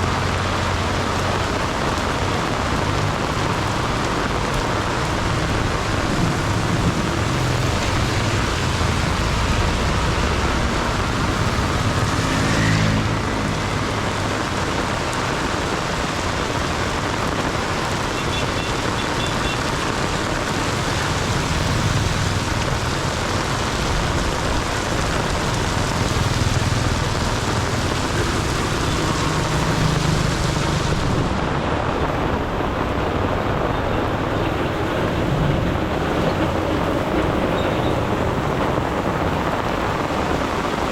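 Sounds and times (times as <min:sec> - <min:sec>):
heavy rain pouring: 0:00.0 - 0:40.9
passing vehicles rumbling: 0:00.0 - 0:40.9.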